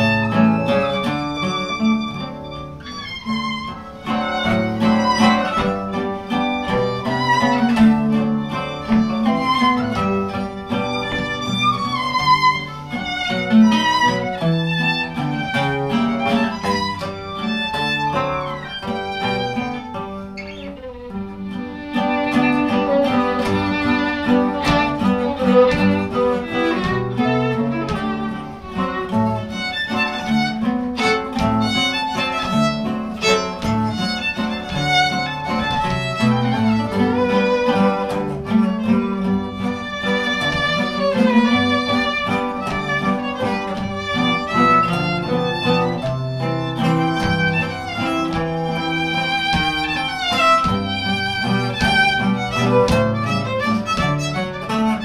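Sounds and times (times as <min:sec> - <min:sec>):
bowed violin melody: 0:00.0 - 0:55.0
strummed guitars: 0:00.0 - 0:55.0.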